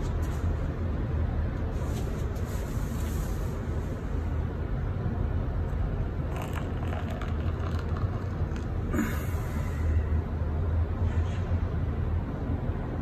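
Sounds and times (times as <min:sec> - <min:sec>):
even noise haze: 0:00.0 - 0:13.0
vehicle rumbling in motion: 0:00.0 - 0:13.0.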